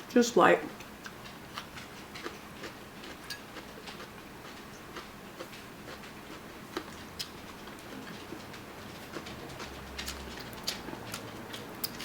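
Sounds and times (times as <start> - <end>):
chewing: 0.8 - 12.0.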